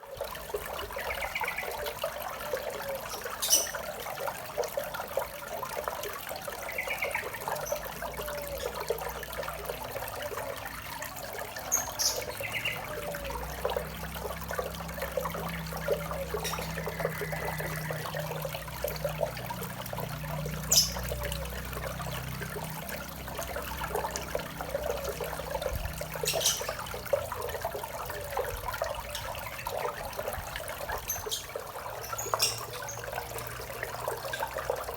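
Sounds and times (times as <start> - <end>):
waterfall splashing into pond: 0.0 - 34.9.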